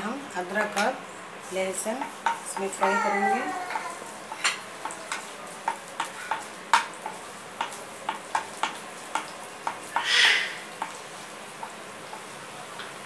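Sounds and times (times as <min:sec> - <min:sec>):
food sizzling in hot oil: 0:01.4 - 0:13.0.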